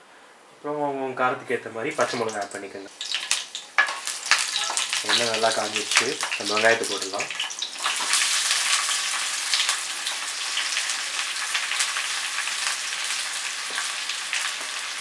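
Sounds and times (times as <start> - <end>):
onions sizzling in hot oil: 1.9 - 15.0.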